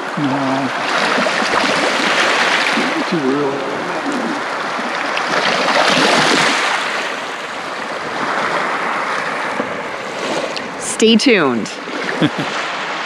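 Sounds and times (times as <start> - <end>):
small waves lapping on beach: 0.0 - 13.0.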